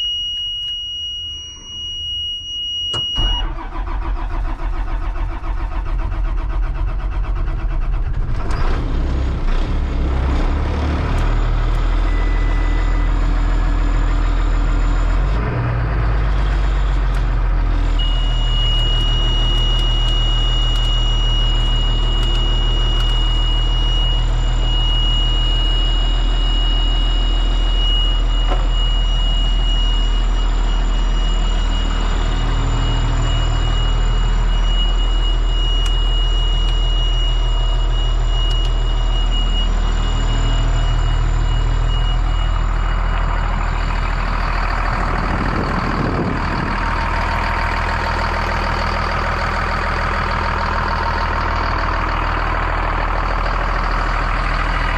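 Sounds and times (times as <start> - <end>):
diesel bus engine idling: 3.2 - 54.9.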